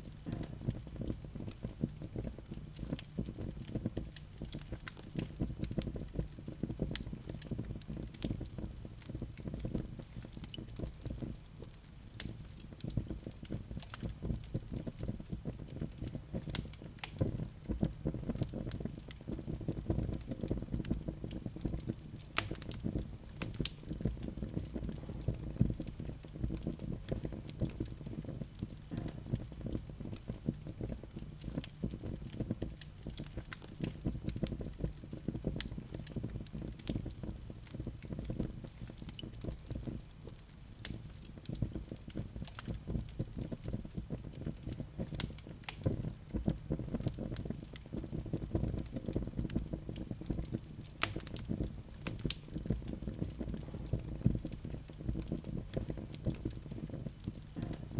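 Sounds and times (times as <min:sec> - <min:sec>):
low rumble of flames: 0:00.0 - 0:57.9
sharp pops and snaps: 0:00.0 - 0:57.9
wood fire crackling: 0:00.0 - 0:57.9.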